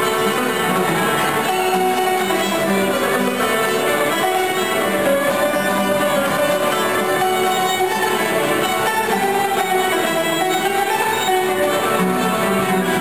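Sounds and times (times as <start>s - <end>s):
fiddles playing melody: 0.0s - 13.0s
guitar and plucked strings: 0.0s - 13.0s.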